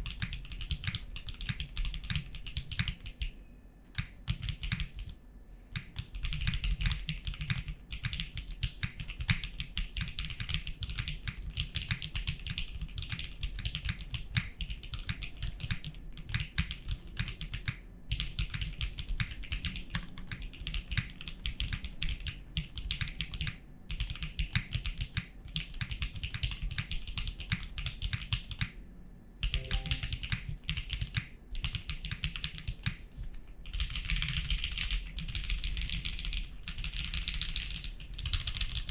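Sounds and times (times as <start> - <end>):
mechanical keyboard typing: 0.0 - 3.3, 4.0 - 5.1, 5.8 - 28.7, 29.4 - 33.0, 33.6 - 38.9.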